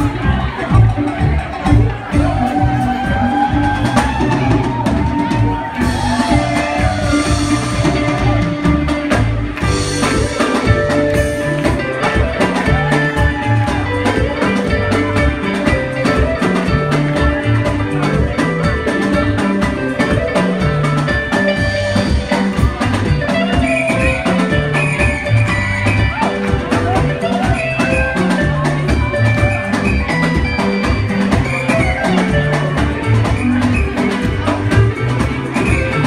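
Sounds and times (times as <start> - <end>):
bass guitar: 0.0 - 36.0
drum kit: 0.0 - 36.0
electric guitar lines: 0.0 - 36.0.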